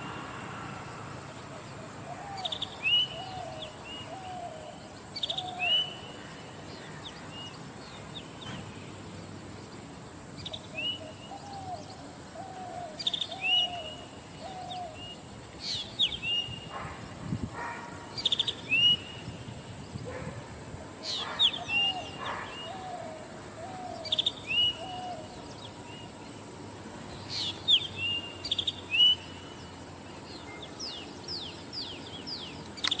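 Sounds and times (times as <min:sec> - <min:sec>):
faint steady high hiss: 0:00.0 - 0:33.0.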